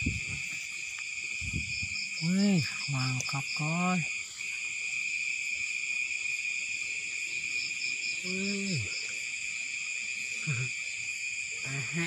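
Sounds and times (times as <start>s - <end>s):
crickets trilling: 0.0s - 12.0s
fast pulsing insect trill: 0.0s - 12.0s.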